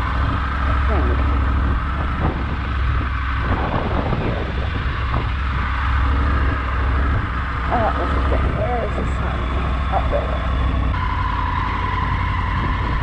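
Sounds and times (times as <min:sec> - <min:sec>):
motorcycle engine running steadily: 0:00.0 - 0:13.0
wind noise on microphone: 0:00.0 - 0:13.0.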